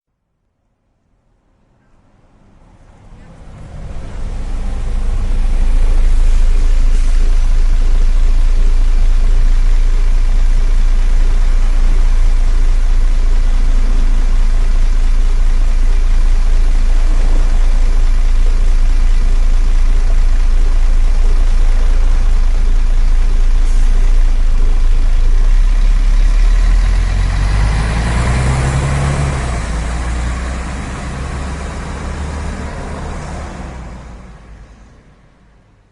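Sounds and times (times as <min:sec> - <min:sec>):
bus engine rumbling: 0:01.7 - 0:35.9.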